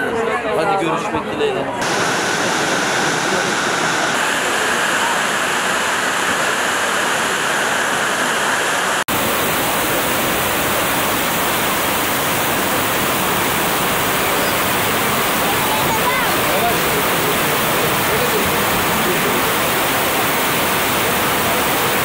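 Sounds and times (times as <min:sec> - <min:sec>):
water rushing over rocks: 0:01.8 - 0:22.0.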